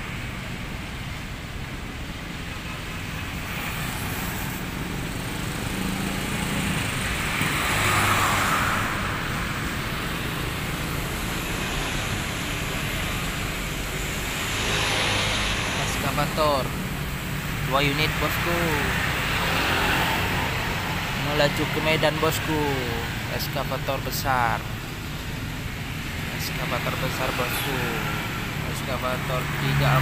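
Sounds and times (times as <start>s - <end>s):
motorcycles passing: 0.0s - 30.0s.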